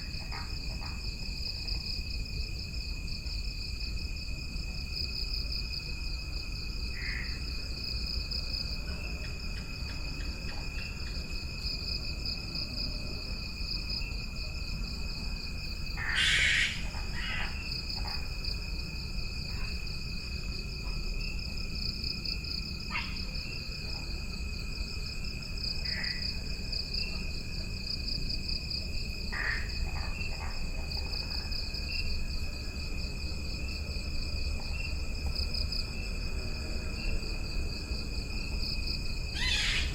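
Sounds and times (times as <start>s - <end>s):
insect high pulsing whirr: 0.0s - 39.9s
insect steady low trill: 0.0s - 39.9s.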